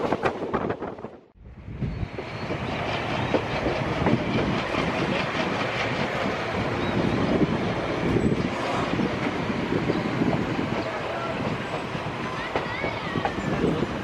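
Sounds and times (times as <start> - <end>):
train coaches rumbling and rattling: 0.0 - 14.0
wheels clacking over rail joints: 2.2 - 14.0.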